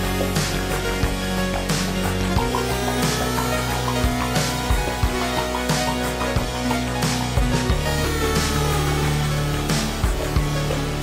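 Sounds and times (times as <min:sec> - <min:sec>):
background music with bass and drums: 0:00.0 - 0:11.0.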